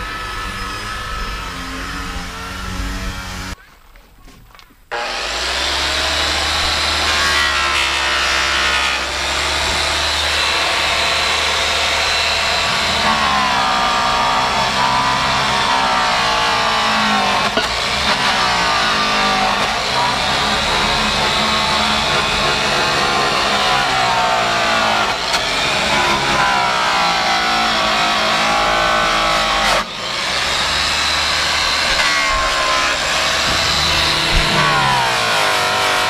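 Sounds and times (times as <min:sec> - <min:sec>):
electric polisher motor whine: 0:00.0 - 0:03.6, 0:04.9 - 0:36.0.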